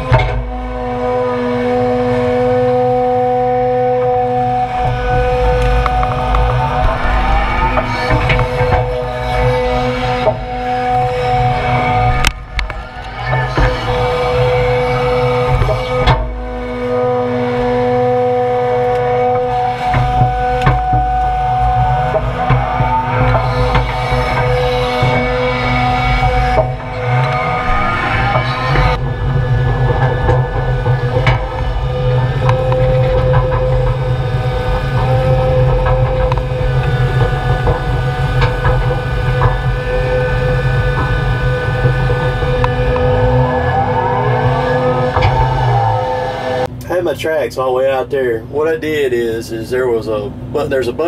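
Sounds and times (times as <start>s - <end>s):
excavator diesel engine: 0.0s - 51.0s
hydraulic whine: 0.0s - 51.0s.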